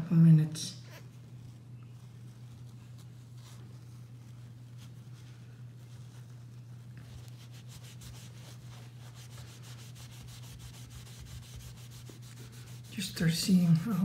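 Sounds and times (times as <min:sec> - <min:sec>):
steady low hum: 0:00.0 - 0:14.0
cloth rubbing on metal: 0:00.8 - 0:14.0.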